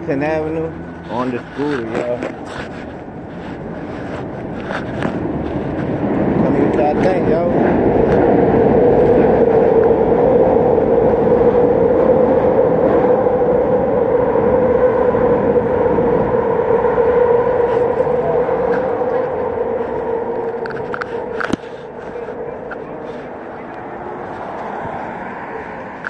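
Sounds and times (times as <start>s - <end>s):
elevated train rumbling: 0.0s - 26.0s.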